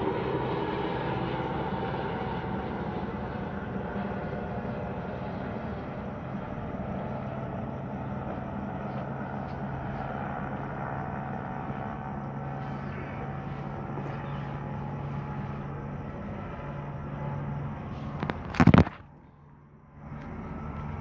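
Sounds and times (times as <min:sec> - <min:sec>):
helicopter droning: 0:00.0 - 0:21.0.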